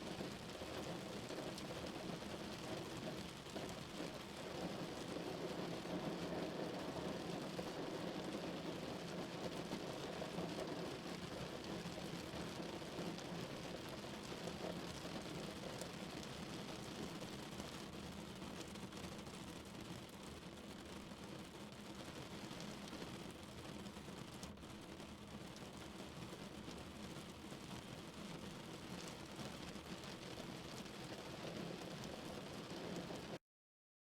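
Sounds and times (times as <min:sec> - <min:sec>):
rain on car roof: 0:00.0 - 0:33.4.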